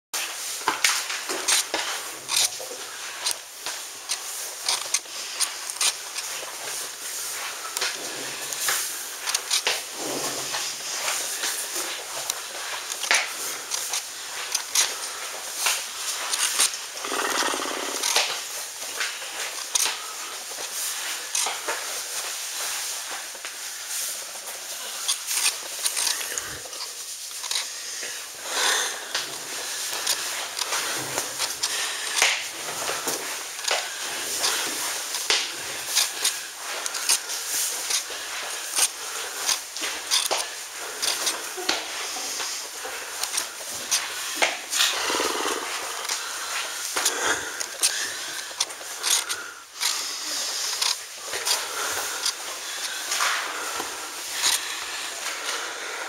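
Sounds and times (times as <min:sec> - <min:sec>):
scuffs and rustles on carpet: 0:00.2 - 0:55.8
camera rubbing against clothing: 0:01.0 - 0:55.8.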